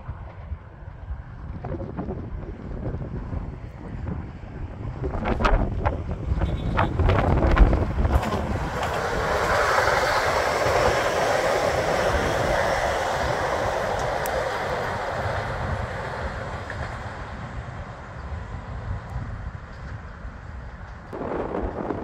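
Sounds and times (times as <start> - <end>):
passenger train passing on rails: 0.0 - 22.0
wind buffeting microphone: 0.0 - 22.0.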